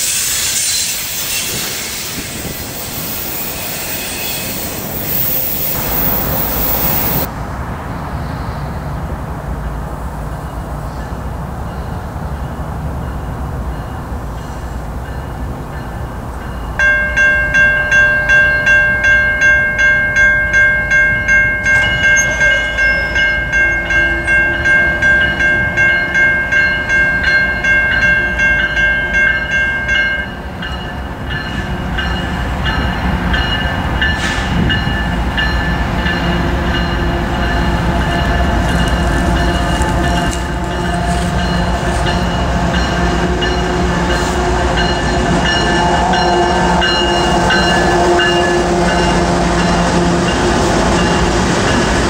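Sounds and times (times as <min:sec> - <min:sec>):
railroad crossing bell ringing: 0:00.0 - 0:07.3, 0:09.6 - 0:52.0
freight train rumble: 0:00.0 - 0:52.0.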